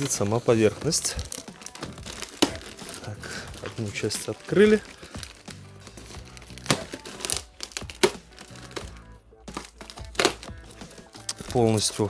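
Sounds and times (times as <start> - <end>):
background music: 0.0 - 12.0
plastic wrap crinkling: 0.0 - 12.0.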